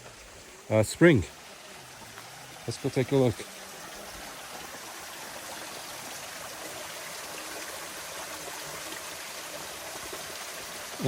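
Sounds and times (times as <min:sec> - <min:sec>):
spring water running: 0:00.0 - 0:11.0.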